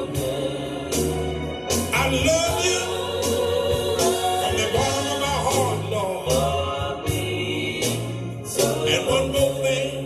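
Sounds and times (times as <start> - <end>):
steady drum beat: 0.0 - 9.9
bass: 0.0 - 10.0
organ: 0.0 - 10.0.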